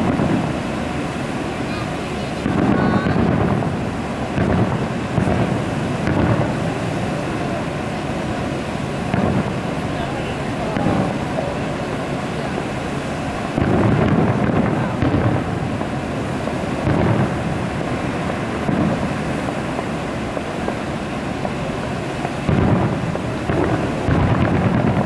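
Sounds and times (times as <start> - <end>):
distant fireworks booming: 0.0 - 25.0
steady background hiss: 0.0 - 25.0.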